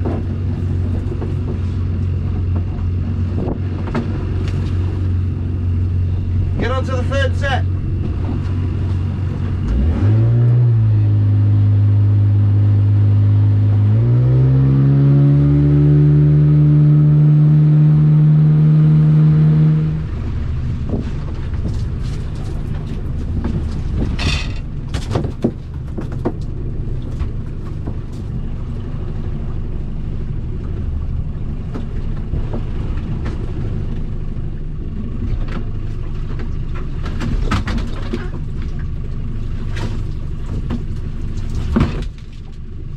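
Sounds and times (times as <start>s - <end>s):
boat engine revving: 0.0s - 42.9s.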